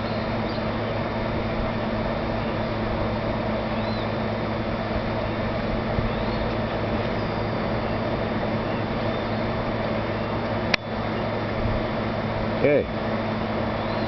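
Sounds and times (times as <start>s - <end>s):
mechanical hum and hiss: 0.0s - 14.0s.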